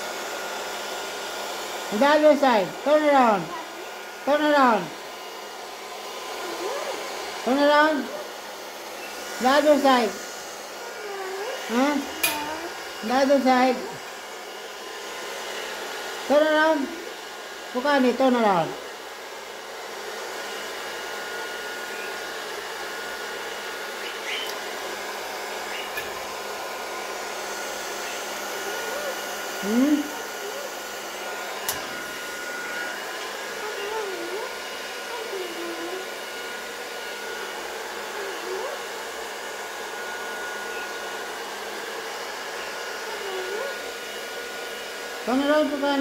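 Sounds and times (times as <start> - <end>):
hair dryer whining: 0.0 - 46.0.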